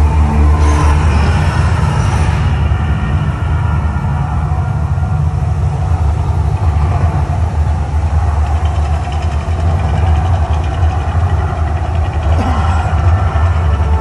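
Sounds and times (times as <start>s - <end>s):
deep rumble of volcano show: 0.0s - 14.0s.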